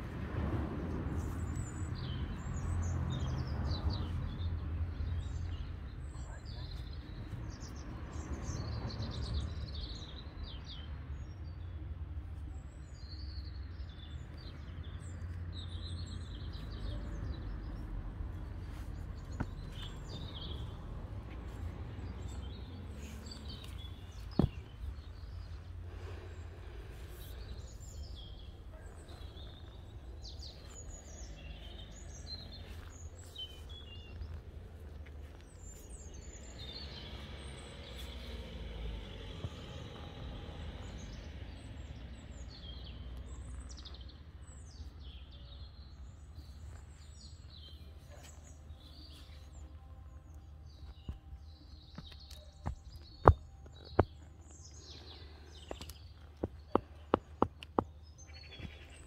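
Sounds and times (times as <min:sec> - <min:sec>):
small birds chirping: 0:01.1 - 0:59.0.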